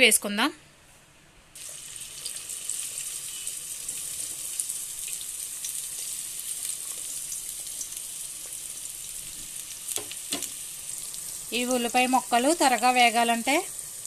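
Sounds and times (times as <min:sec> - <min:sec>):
onions sizzling in hot oil: 0:01.6 - 0:14.0.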